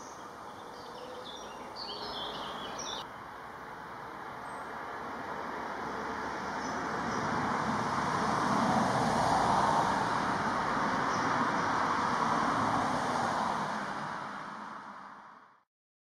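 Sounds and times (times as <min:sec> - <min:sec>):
road traffic rumble: 0:00.0 - 0:15.6.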